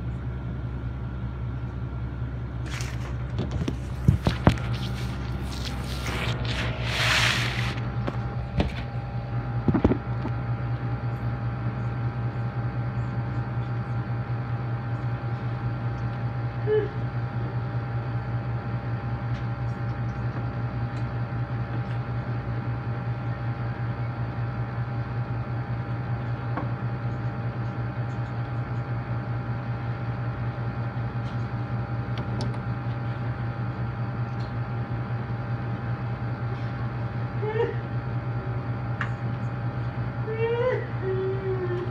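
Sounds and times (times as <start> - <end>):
air conditioner humming: 0.0 - 41.9.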